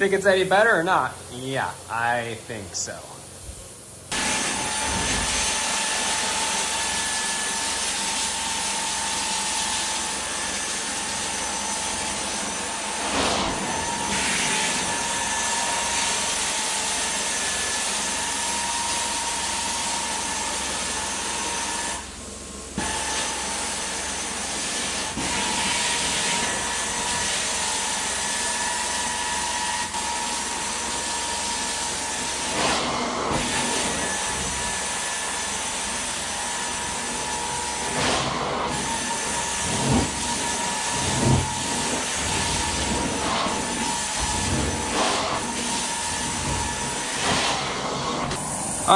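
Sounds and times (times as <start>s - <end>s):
carpet extraction vacuum suction: 3.4s - 48.9s.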